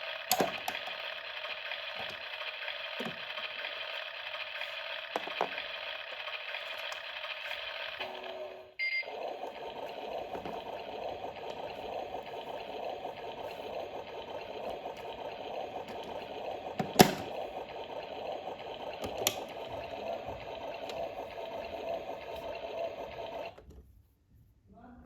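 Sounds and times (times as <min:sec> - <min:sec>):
washing machine running: 0:00.0 - 0:23.7.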